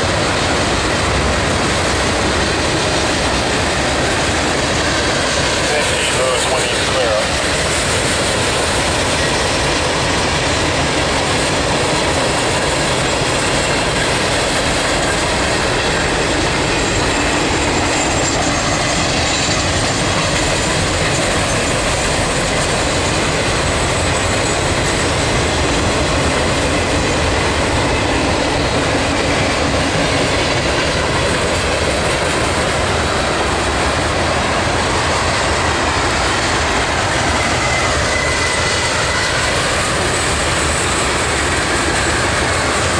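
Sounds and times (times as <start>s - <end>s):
freight train wheels rumbling on rails: 0.0s - 42.9s.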